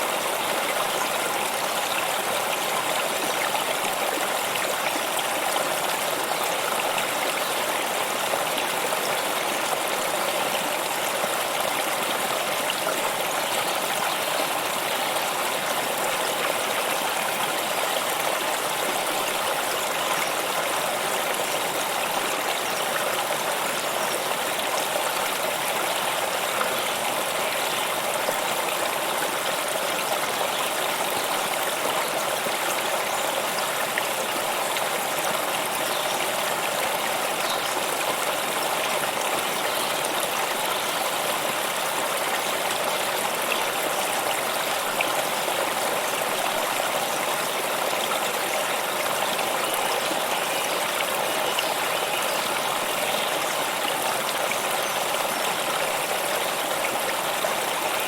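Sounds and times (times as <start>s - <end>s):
water stream flowing: 0.0s - 58.0s.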